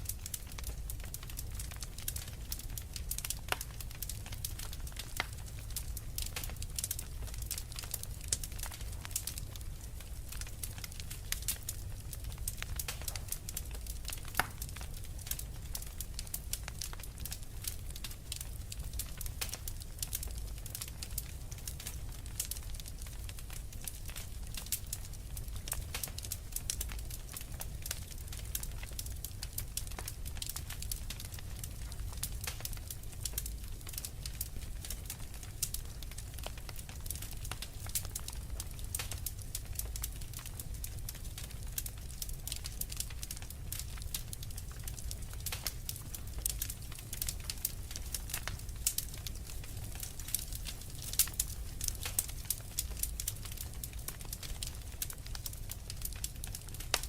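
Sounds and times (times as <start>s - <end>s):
wood fire crackling: 0.0s - 57.0s
sharp pops of fire: 0.2s - 57.0s.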